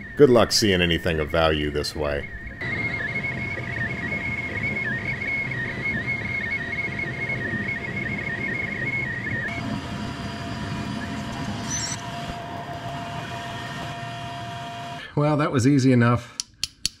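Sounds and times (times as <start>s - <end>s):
machine whining and rumbling: 0.0s - 15.1s
steady low hum: 0.0s - 15.1s.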